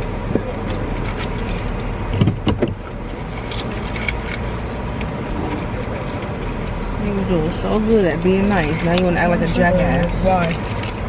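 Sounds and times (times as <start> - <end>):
car engine idling rumble: 0.0 - 11.0
clicks and rustles of rummaging: 0.3 - 6.6, 7.6 - 11.0.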